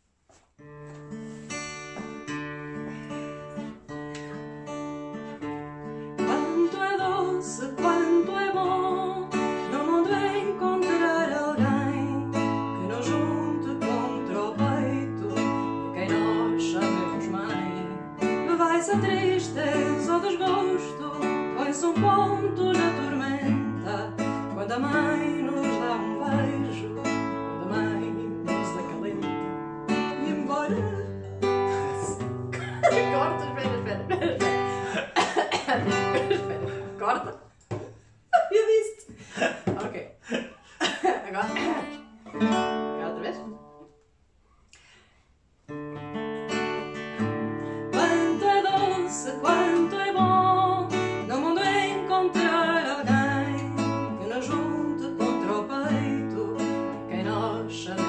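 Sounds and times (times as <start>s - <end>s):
plucked acoustic guitar music: 0.6s - 38.0s, 40.8s - 44.0s, 45.7s - 58.0s.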